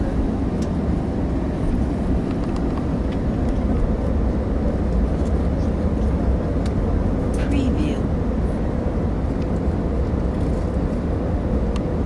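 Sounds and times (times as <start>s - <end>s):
airliner engine and airflow rumble: 0.0s - 12.0s.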